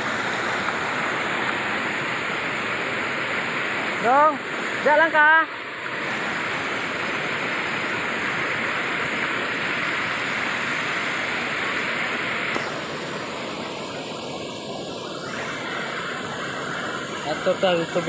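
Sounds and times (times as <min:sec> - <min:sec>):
waterfall rushing over boulders: 0:00.0 - 0:18.0.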